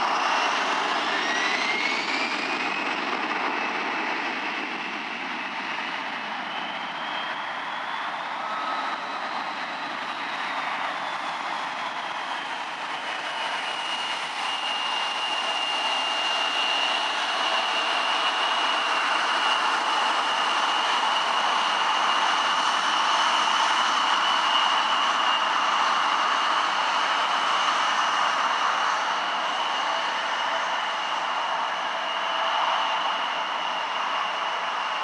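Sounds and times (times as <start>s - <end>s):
jet engine fan whine: 0.0s - 35.0s.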